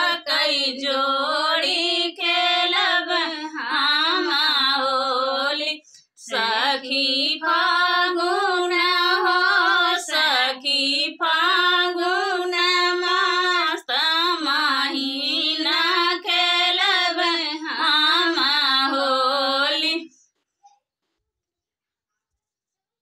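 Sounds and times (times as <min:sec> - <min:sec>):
women singing folk song: 0:00.0 - 0:20.2.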